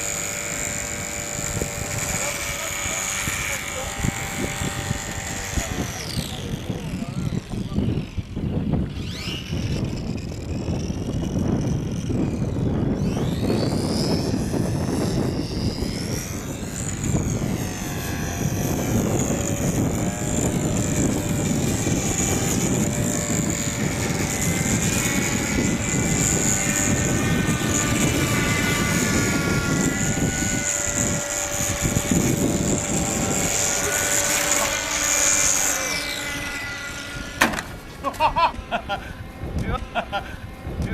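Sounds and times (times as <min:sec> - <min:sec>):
model aircraft motor whine: 0:00.0 - 0:40.9.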